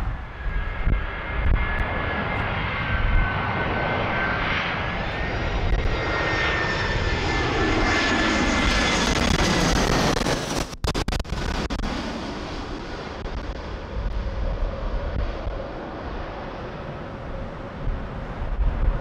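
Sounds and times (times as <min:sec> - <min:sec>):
jet engine whine: 0:00.0 - 0:19.0
wind rumble on microphone: 0:00.0 - 0:19.0.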